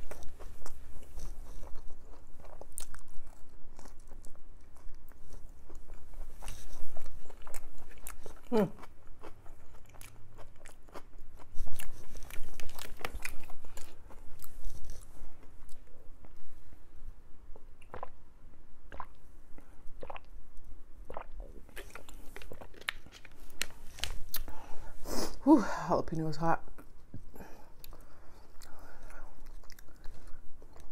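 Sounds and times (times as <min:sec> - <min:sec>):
close chewing with crunching: 0:00.0 - 0:16.5, 0:17.5 - 0:20.4, 0:21.0 - 0:24.6, 0:26.8 - 0:30.9.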